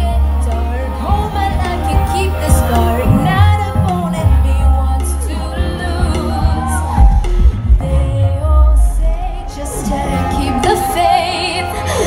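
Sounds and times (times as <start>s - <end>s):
live pop song through loudspeakers: 0.0s - 12.0s
woman singing: 0.0s - 12.0s.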